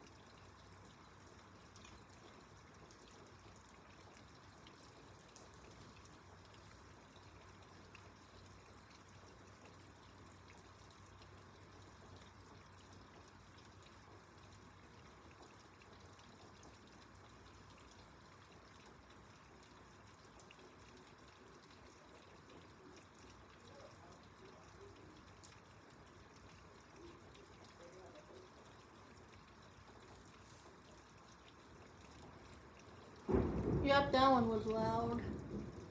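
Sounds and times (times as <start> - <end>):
faint steady rain: 0.0 - 35.9
water dripping: 0.0 - 35.9.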